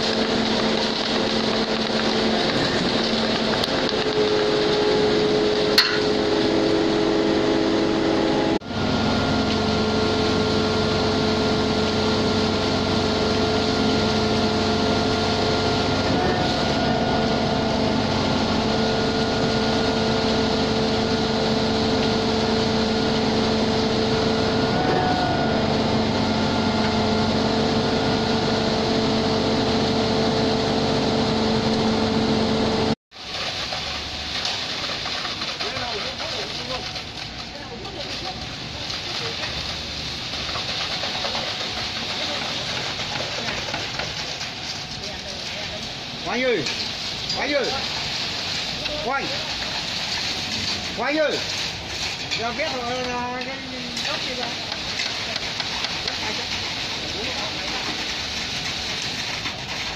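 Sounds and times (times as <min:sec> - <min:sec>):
diesel engine noise: 0:00.0 - 0:59.9.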